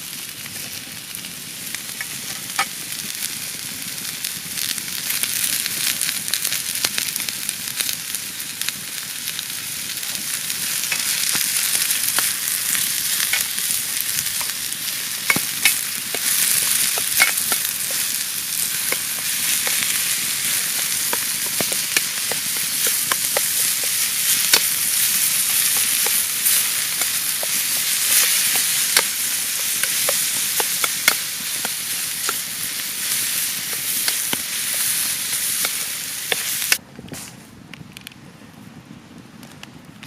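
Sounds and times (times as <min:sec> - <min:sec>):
food sizzling in a pan: 0:00.0 - 0:36.8
fire crackling: 0:00.0 - 0:40.0.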